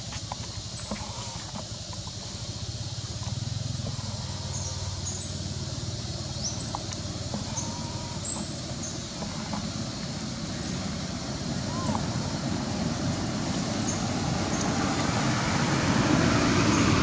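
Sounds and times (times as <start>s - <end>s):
low motor rumble: 0.0s - 17.0s.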